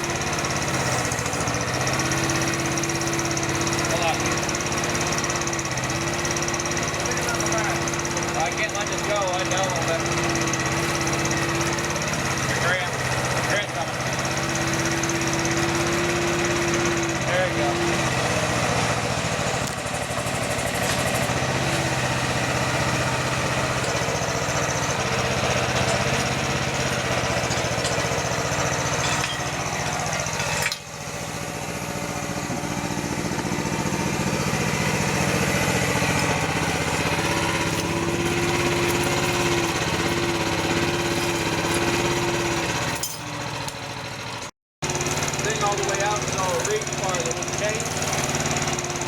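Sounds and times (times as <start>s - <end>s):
excavator engine running: 0.0s - 49.0s
hydraulic whine: 0.0s - 49.0s.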